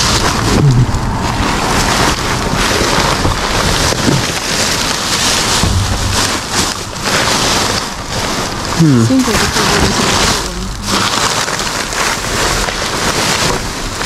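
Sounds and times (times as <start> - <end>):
plastic bags rustling: 0.0 - 14.0.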